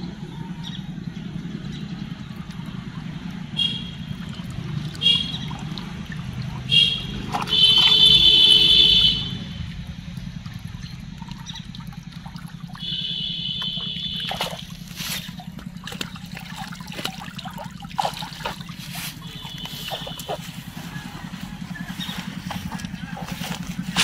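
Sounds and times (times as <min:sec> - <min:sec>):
water trickling and splashing: 0:01.8 - 0:24.0.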